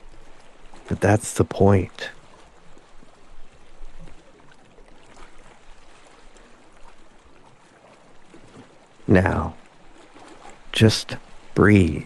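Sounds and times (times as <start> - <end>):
gentle water wash: 0.0 - 12.0.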